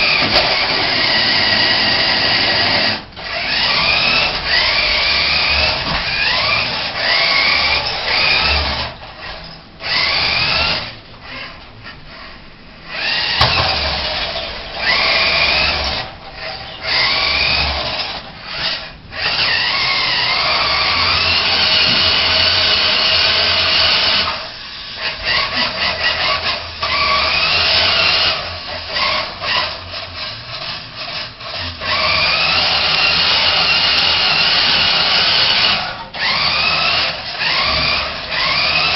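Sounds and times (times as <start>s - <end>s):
remote control truck motor whining: 0.0s - 38.9s.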